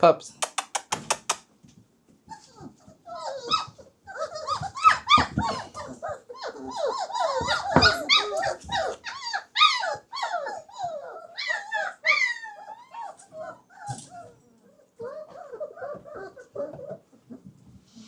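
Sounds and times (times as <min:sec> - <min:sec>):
puppies whining and yelping: 0:02.3 - 0:17.8.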